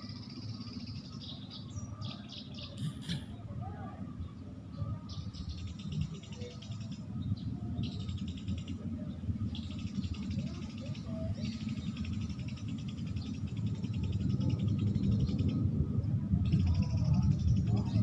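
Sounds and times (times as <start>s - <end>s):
sparrows chirping: 0.0s - 3.5s, 4.2s - 15.7s, 16.4s - 18.0s
steady low rumble: 0.0s - 18.0s.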